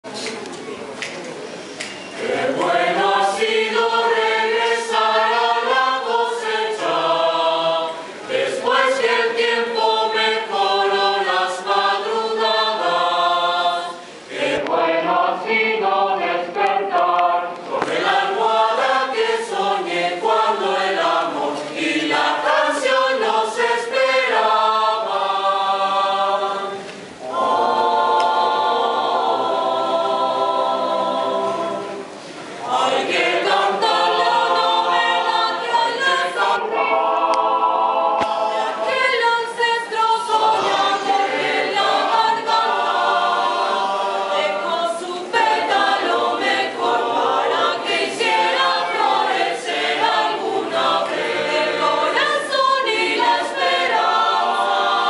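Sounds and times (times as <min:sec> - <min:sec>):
mixed choir singing unaccompanied: 0:02.0 - 0:55.0.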